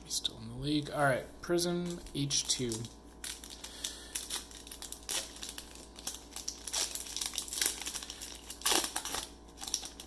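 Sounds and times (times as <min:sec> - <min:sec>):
foil wrapper crinkling: 0:01.8 - 0:10.0.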